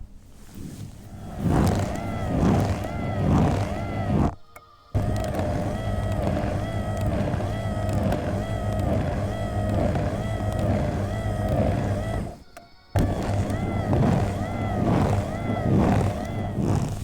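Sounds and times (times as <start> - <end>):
massage machine motor hum: 0.4 - 17.0
rising and falling whine: 1.1 - 17.0.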